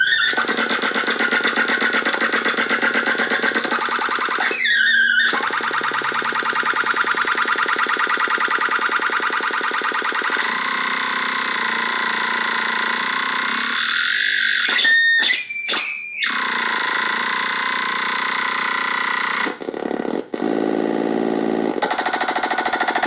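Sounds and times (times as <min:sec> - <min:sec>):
harsh electronic buzzing tone: 0:00.0 - 0:23.0.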